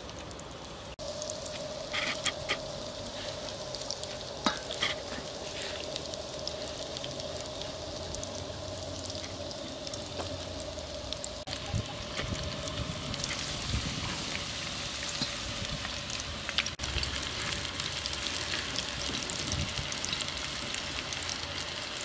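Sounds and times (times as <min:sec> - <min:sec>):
oil sizzling: 0:00.0 - 0:22.0.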